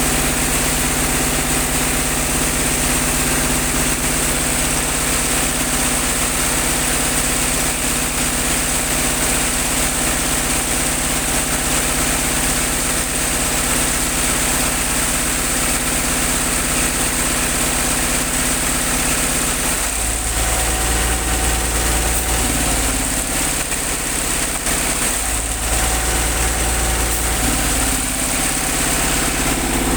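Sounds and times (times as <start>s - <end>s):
air compressor engine running: 0.0s - 29.9s.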